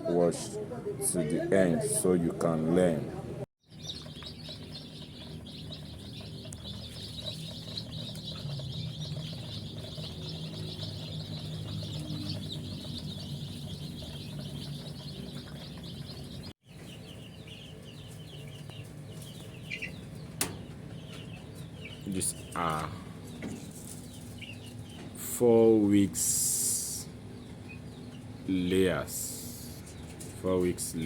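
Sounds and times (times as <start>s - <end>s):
chicks cheeping: 3.6s - 31.0s.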